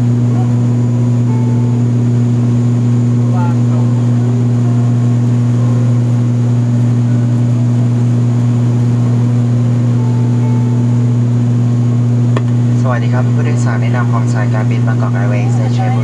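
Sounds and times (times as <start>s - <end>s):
loud propeller drone: 0.0s - 16.0s.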